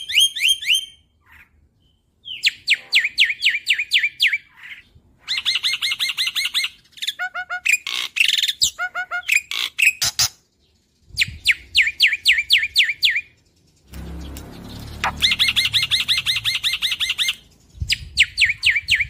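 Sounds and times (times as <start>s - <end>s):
bird whistling song: 0.0s - 19.0s
bird sharp notes and chatter: 2.3s - 19.0s.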